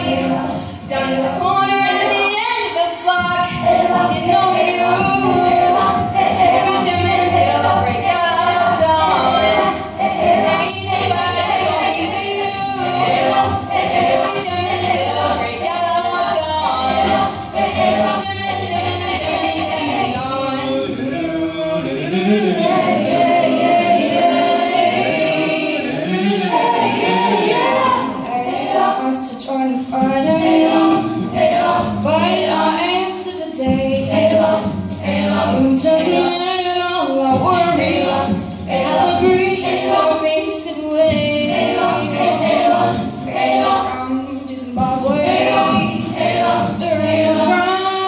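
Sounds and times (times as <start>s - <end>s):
vocal ensemble singing: 0.0s - 48.0s.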